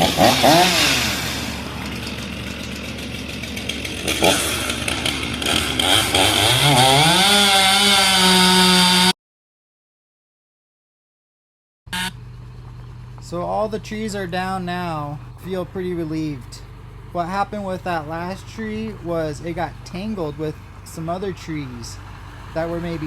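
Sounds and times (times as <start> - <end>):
engine revving: 0.0 - 9.2, 11.9 - 23.0.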